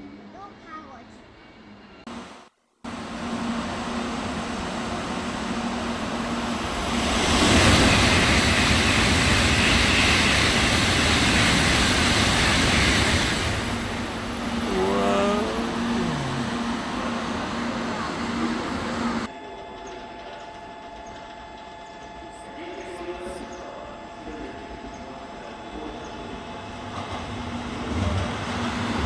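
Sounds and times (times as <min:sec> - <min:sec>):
bullet train passing at speed: 0:00.0 - 0:29.0.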